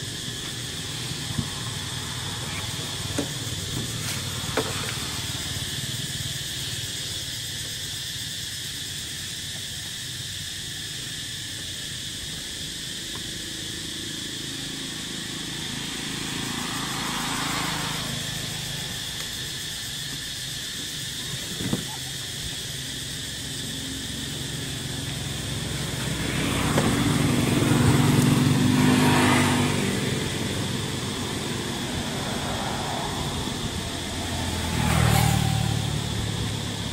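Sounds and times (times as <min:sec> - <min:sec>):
vehicle passing: 0:00.0 - 0:07.4, 0:12.9 - 0:21.1, 0:22.5 - 0:36.9
cicadas droning: 0:00.0 - 0:36.9.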